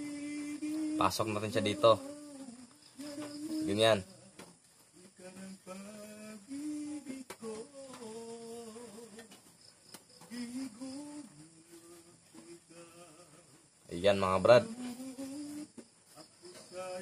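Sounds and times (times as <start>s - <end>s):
person softly humming: 0.0s - 9.5s, 10.2s - 13.7s, 14.6s - 17.0s.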